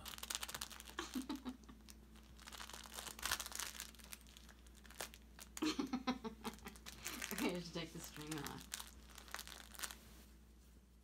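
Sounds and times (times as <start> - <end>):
kitten crinkling and scratching toy: 0.0 - 5.6, 6.4 - 10.2.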